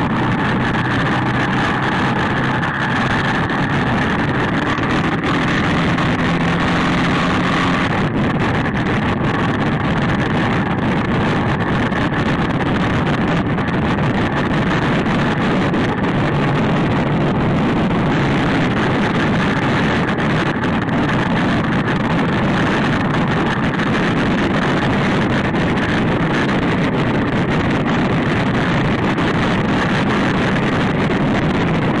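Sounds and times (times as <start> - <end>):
motorcycle engine running: 0.0 - 32.0
wind rush on microphone: 0.0 - 32.0.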